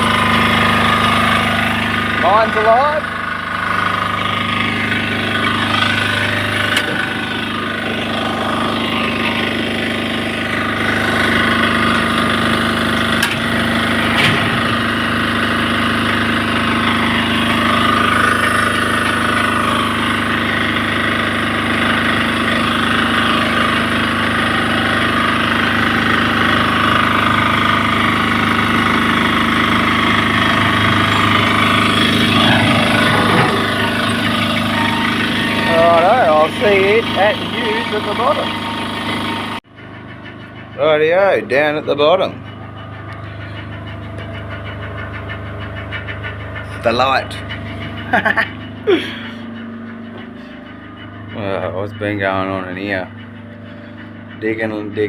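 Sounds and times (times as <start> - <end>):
generator engine humming: 0.0 - 55.0.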